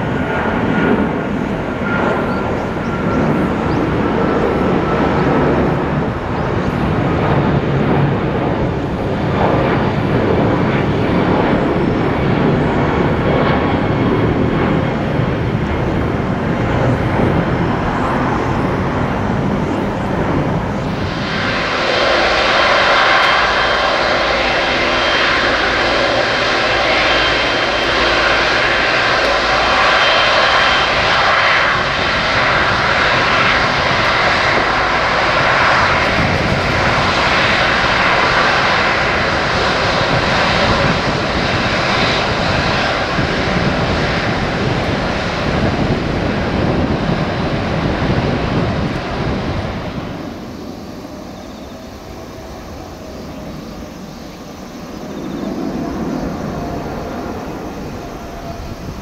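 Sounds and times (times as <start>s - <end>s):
distant jet rumble: 0.0s - 59.0s
jet engine whine: 0.0s - 59.0s.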